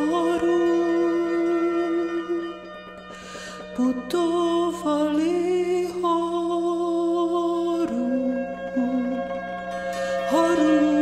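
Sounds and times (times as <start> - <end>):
long-held melody note: 0.0 - 11.0
slow folk song music: 0.0 - 11.0.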